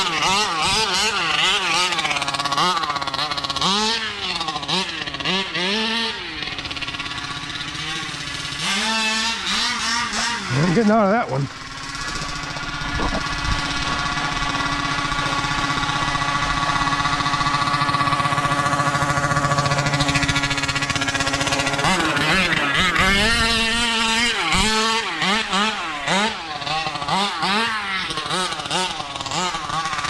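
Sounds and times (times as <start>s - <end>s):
two-stroke engine revving: 0.0s - 30.0s.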